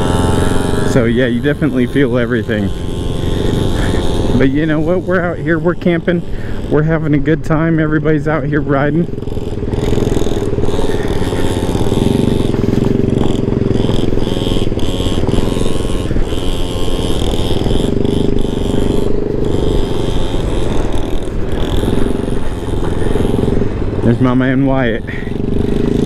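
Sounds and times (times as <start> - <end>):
scooter engine running: 0.0 - 26.0
tyres rumbling on gravel: 0.0 - 26.0.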